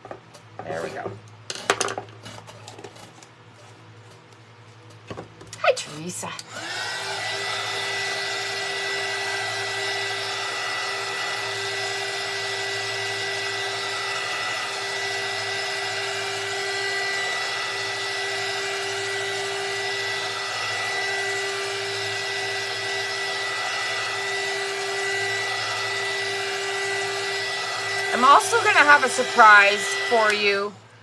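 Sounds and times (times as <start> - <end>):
heat gun blowing: 5.9 - 31.0.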